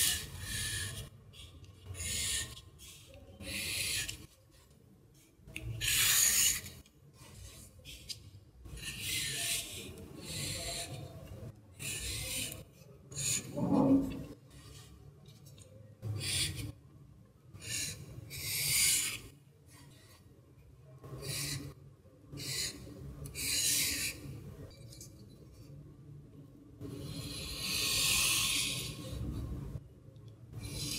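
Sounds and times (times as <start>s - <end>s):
pen scratching on paper: 0.0s - 16.8s, 17.6s - 20.3s, 21.1s - 24.8s, 26.9s - 29.5s, 30.6s - 30.9s.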